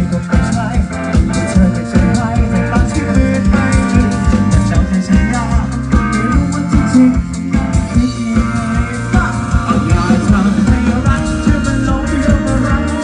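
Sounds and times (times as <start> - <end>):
drum kit beat: 0.0 - 13.0
guitar: 0.0 - 13.0.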